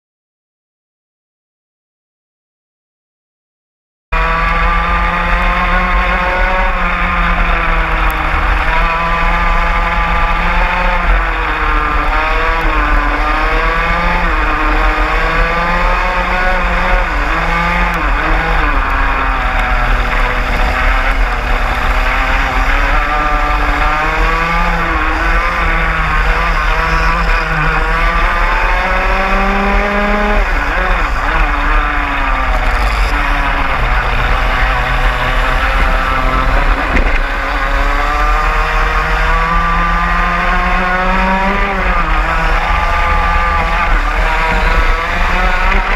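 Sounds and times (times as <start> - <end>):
kart engine revving: 4.2 - 45.9
other karts passing close: 4.2 - 45.9.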